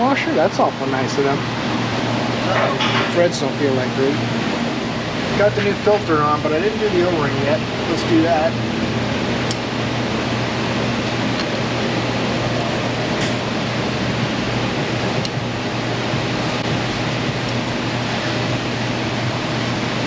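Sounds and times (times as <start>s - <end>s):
constant low hum: 0.0s - 20.0s
fan rushing: 0.0s - 20.0s.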